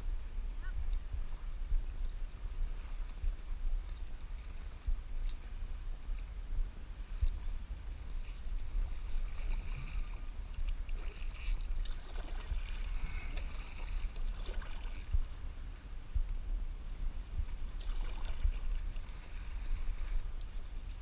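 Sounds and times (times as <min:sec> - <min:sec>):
wind buffeting microphone: 0:00.0 - 0:21.0
paddle splashing water: 0:00.7 - 0:15.8, 0:16.9 - 0:21.0.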